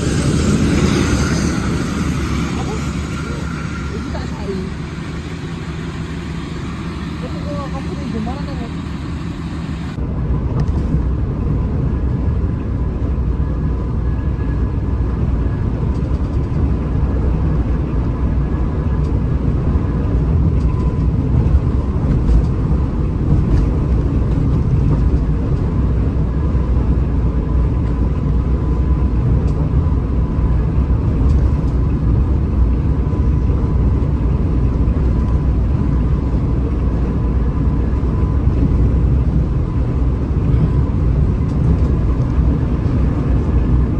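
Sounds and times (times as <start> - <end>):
bus diesel engine rumbling: 0.0 - 43.9
road noise: 0.0 - 43.9.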